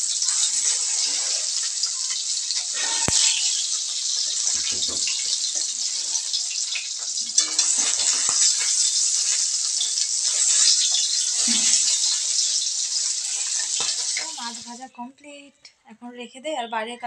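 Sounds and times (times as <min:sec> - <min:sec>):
fish frying in hot oil: 0:00.0 - 0:14.8.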